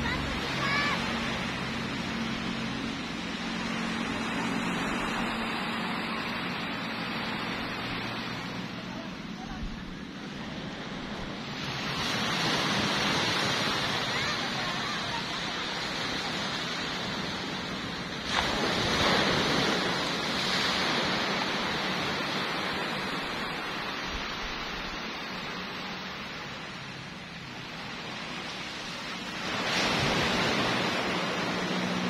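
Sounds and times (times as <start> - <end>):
waves washing on beach: 0.0 - 32.0.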